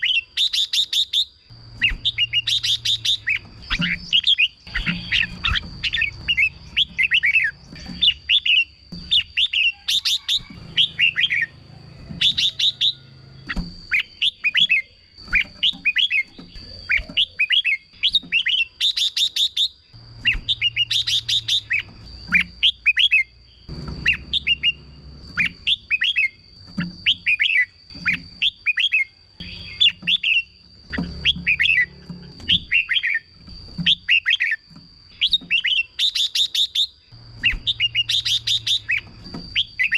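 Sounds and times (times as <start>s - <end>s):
bird singing bubbly phrases: 0.0s - 11.5s, 13.8s - 33.3s, 33.9s - 39.9s.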